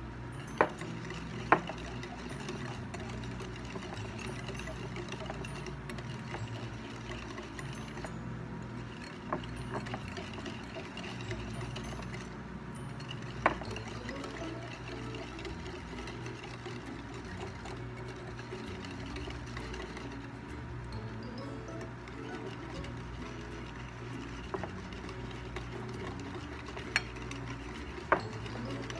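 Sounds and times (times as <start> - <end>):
whisk clattering against plate: 0.4 - 20.6, 21.3 - 28.9.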